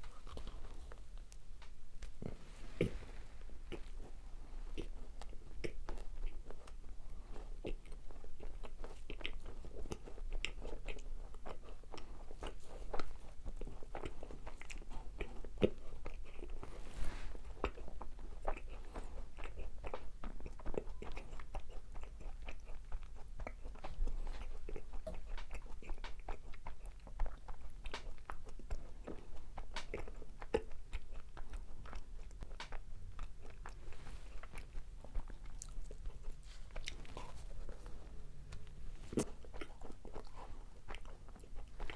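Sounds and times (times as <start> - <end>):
crunching and chewing: 0.0 - 41.9.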